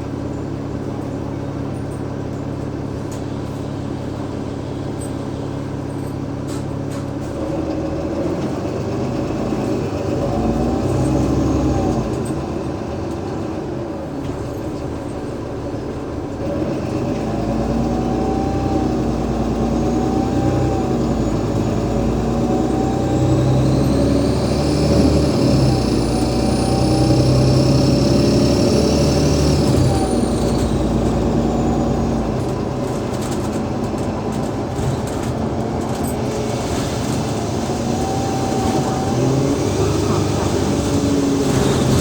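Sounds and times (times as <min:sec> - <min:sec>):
bus diesel engine under way: 0:00.0 - 0:42.0.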